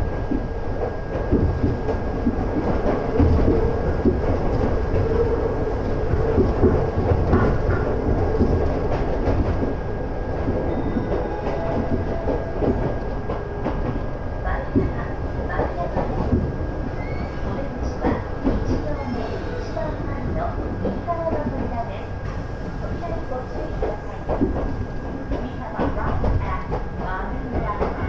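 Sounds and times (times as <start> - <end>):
train running rumble with hum: 0.0 - 28.0.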